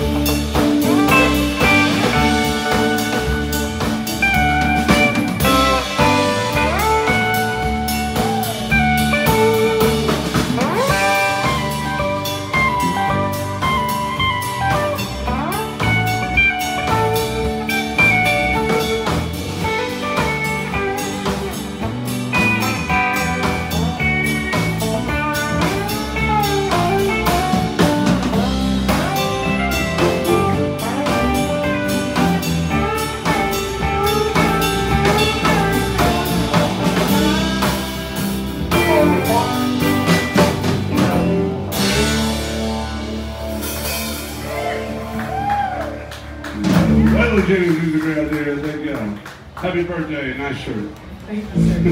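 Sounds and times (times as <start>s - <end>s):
electric guitar lead: 0.0s - 47.8s, 51.1s - 51.9s
drum kit: 0.0s - 49.6s, 51.1s - 51.9s.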